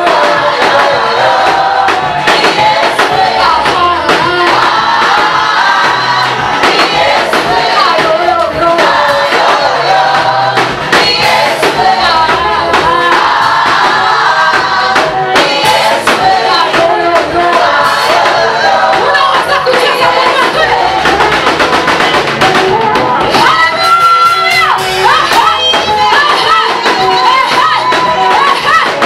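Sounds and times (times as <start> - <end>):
band accompaniment with drum beat: 0.0 - 29.0
choir singing gospel song: 0.0 - 29.0.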